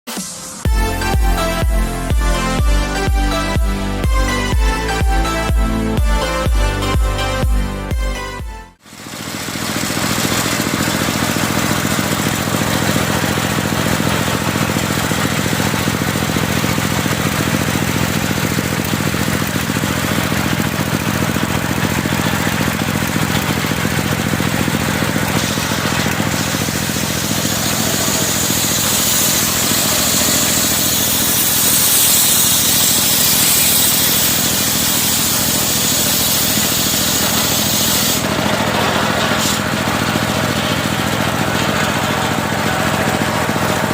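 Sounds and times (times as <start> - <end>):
saw blade cutting wood: 0.1 - 43.9
sawmill engine running: 0.1 - 43.9.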